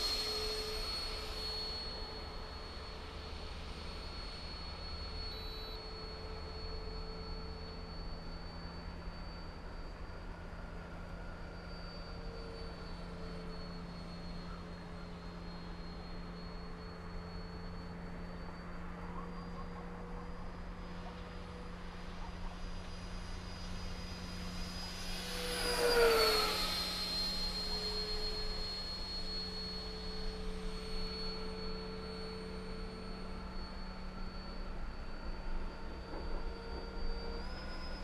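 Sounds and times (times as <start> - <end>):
model jet fan whining: 0.0 - 38.0.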